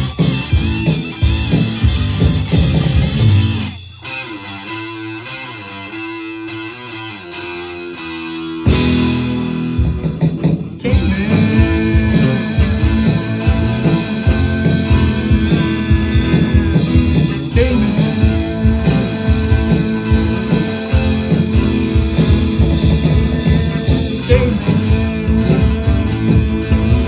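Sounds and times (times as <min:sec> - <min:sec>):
psychedelic rock music: 0:00.0 - 0:27.0.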